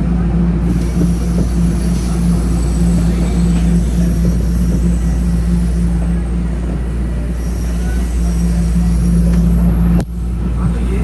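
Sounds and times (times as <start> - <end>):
subway train rumbling: 0.0 - 11.0
train hum: 0.0 - 11.0.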